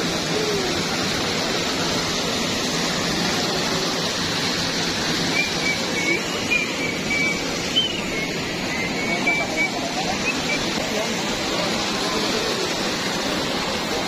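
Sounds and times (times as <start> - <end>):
fountain water splashing into basin: 0.0 - 14.0.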